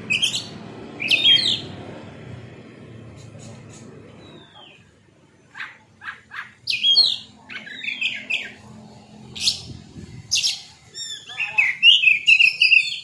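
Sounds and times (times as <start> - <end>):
magpie-robin singing: 0.0 - 1.8, 3.2 - 8.6, 9.3 - 13.0.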